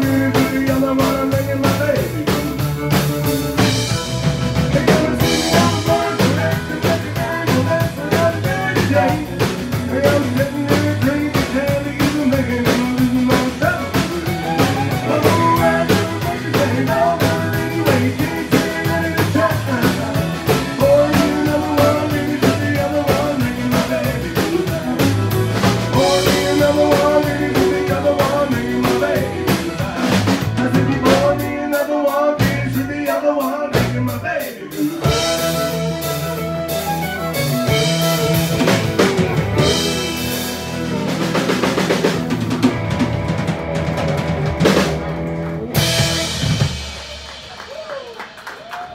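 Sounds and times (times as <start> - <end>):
country-rock band playing: 0.0 - 48.9.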